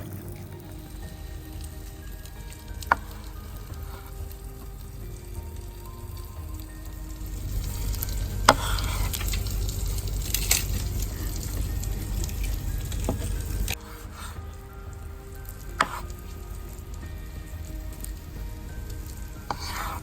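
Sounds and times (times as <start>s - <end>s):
chicken sizzling on hot rock: 0.0s - 20.0s
low rumble: 0.0s - 20.0s.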